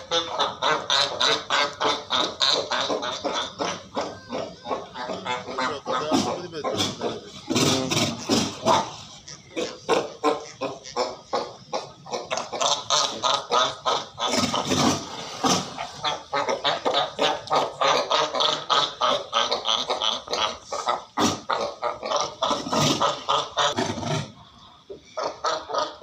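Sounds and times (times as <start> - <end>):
seals barking: 0.0 - 26.0.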